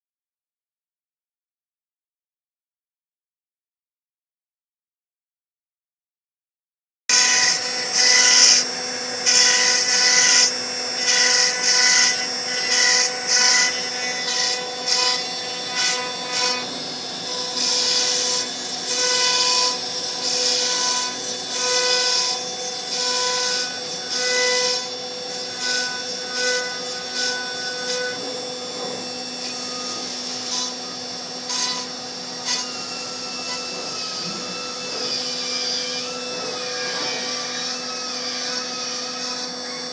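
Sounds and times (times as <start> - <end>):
router spindle whine: 7.1 - 39.9.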